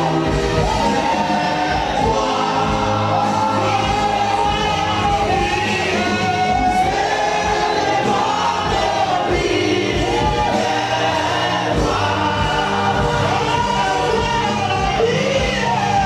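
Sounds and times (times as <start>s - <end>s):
gospel choir singing: 0.0s - 16.0s
live band playing: 0.0s - 16.0s.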